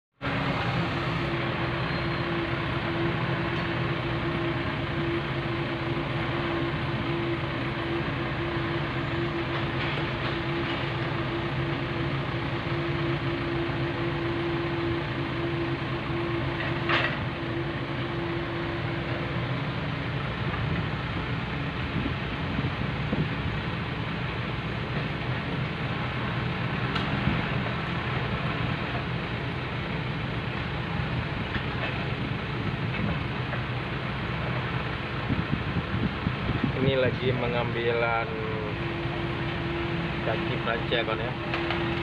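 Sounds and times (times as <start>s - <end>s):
diesel engine running: 0.2s - 42.0s.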